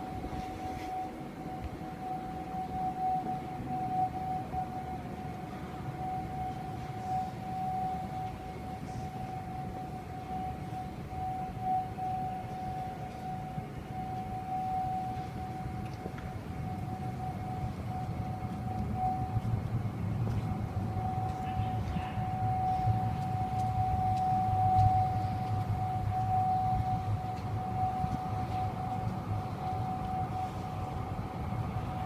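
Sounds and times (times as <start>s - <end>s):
steady unwavering tone: 0.0s - 32.0s.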